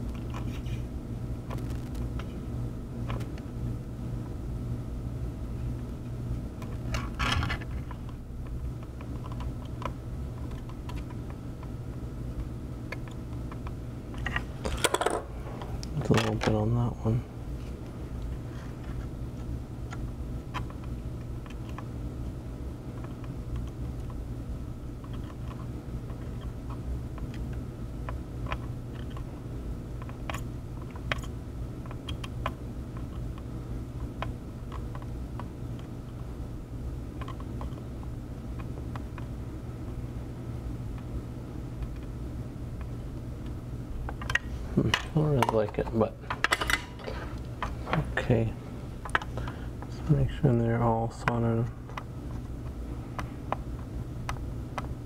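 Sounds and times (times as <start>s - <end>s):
low equipment hum: 0.0s - 55.0s.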